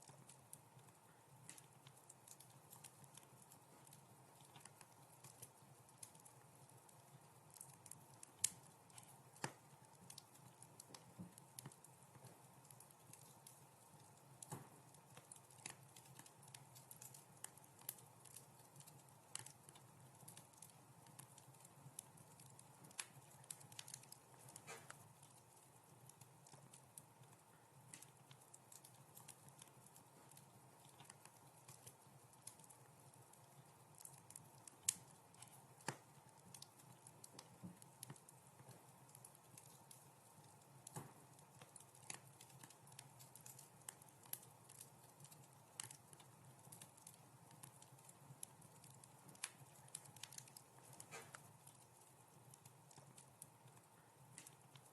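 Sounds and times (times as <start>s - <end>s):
soft low hiss: 0.0s - 54.9s
wood fire crackling: 0.0s - 54.9s.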